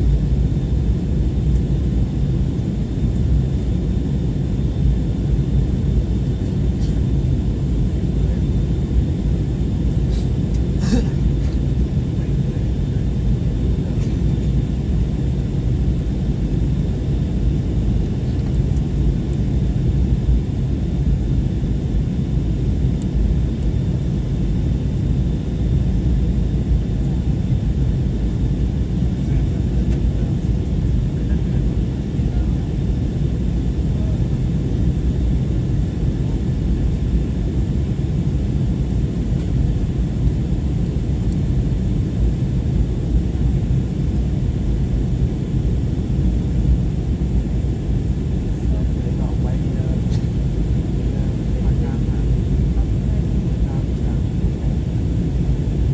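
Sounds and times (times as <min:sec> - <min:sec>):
airliner cabin rumble: 0:00.0 - 0:55.9.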